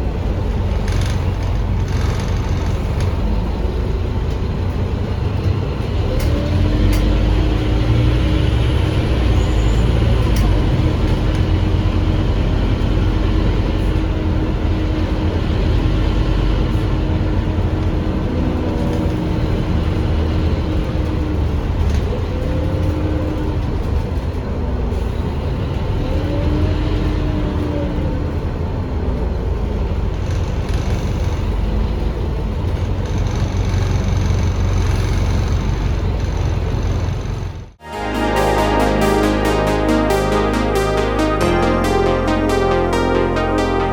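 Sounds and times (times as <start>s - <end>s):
bus engine low rumble: 0.0s - 37.8s.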